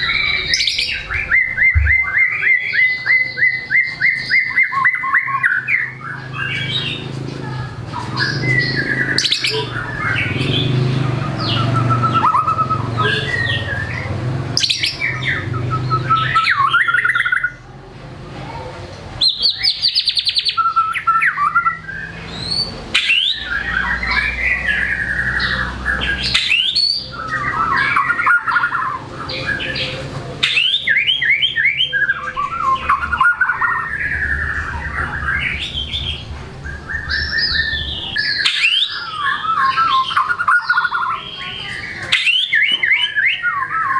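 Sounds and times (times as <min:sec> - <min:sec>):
bird singing whistles and trills: 0:00.0 - 0:07.0, 0:08.2 - 0:17.6, 0:19.2 - 0:43.9.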